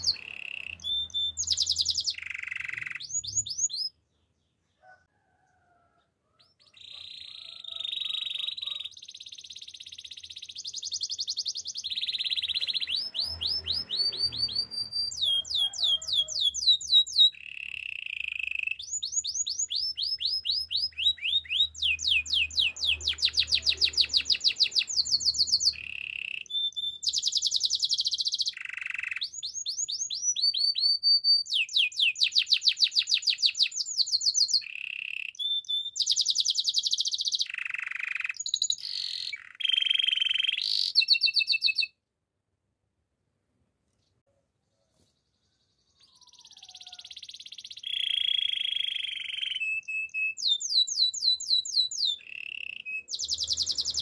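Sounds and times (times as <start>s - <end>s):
canary singing trills: 0.0s - 4.9s, 6.3s - 42.0s, 45.2s - 54.0s.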